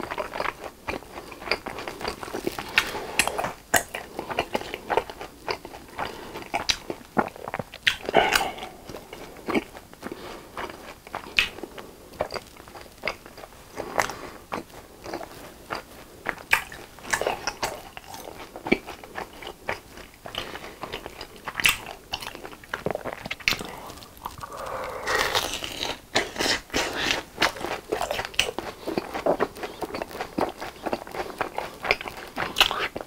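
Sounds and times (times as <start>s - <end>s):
sticky wet chewing: 0.0s - 33.0s.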